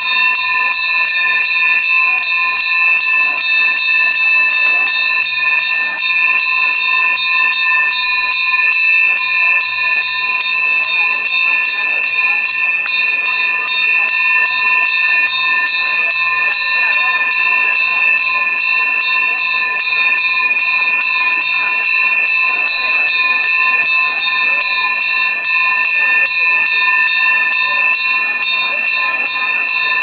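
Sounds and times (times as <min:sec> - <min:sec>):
bells rung fast: 0:00.0 - 0:30.0.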